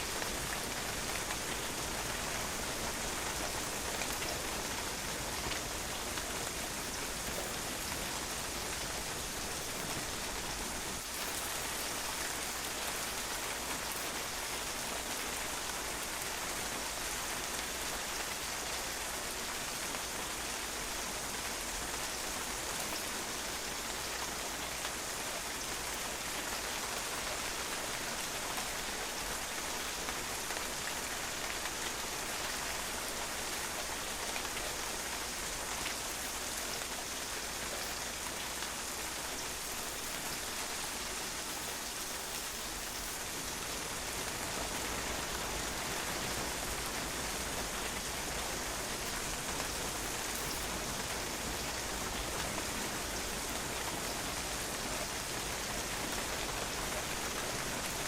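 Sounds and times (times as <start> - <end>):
rain pattering on patio: 0.0 - 58.0.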